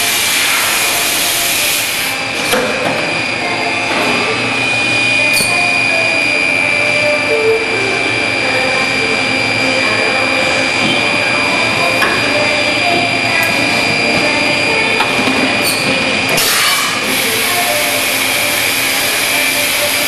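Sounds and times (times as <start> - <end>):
high-pitched machine whine: 0.0 - 20.0
industrial machine running: 0.0 - 20.0.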